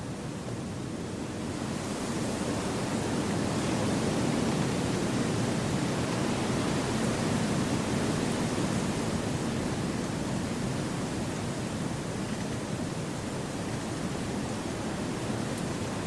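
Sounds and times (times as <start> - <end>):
wind blowing through trees: 0.3 - 16.0.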